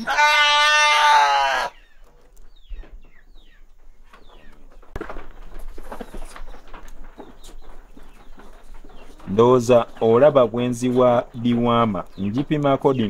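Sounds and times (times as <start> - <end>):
birds chirping: 0.0 - 13.0
rustling: 1.9 - 12.8.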